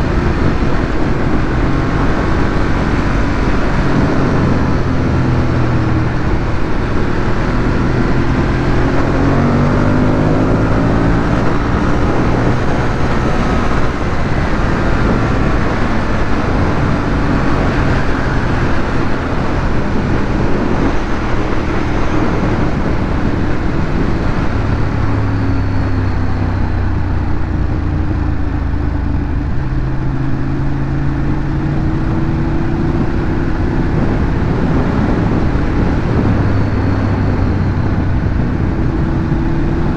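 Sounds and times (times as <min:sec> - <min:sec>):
motorcycle engine while riding: 0:00.0 - 0:39.9
wind and road noise: 0:00.0 - 0:39.9.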